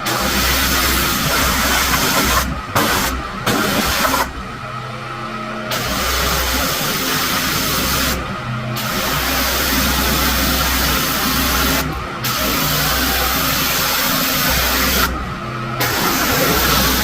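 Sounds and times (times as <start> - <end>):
pressure washer spraying: 0.0 - 4.4, 5.7 - 8.2, 8.8 - 15.2, 15.8 - 17.0
engine humming: 0.0 - 17.0.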